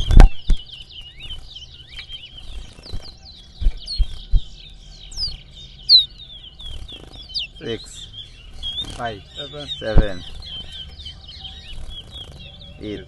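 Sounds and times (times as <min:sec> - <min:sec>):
songbirds chirping and whistling: 0:00.0 - 0:13.0.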